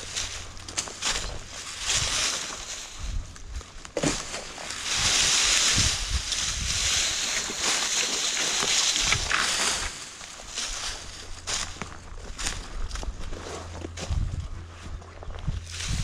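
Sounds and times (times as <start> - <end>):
twigs cracking: 0.0 - 14.1
branches dragged through leaves: 0.0 - 16.0.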